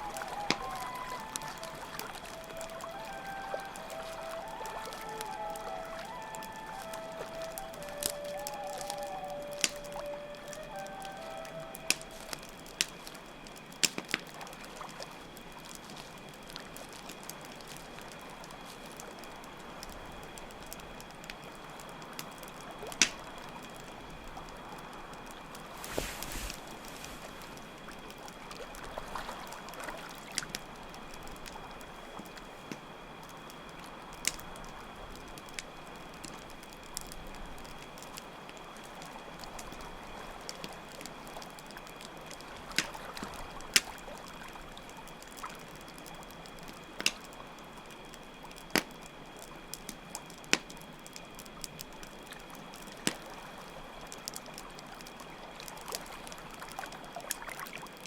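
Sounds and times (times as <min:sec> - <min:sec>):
campfire crackling: 0:00.0 - 0:58.0
crickets chirring: 0:00.0 - 0:58.0
fire pops: 0:00.0 - 0:58.0
trickling water: 0:00.0 - 0:58.0.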